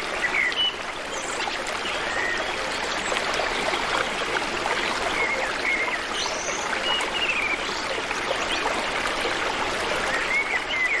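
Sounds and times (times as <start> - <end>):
stream flowing: 0.0 - 11.0.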